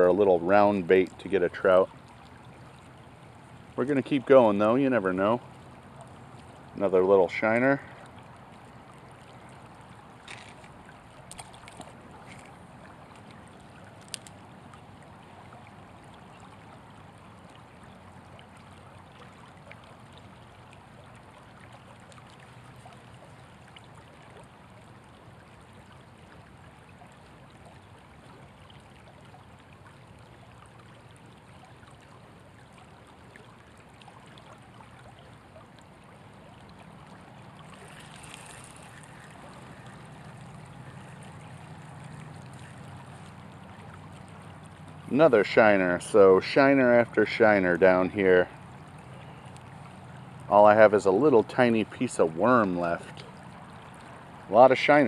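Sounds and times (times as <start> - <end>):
creek running over gravel: 0.0 - 55.0.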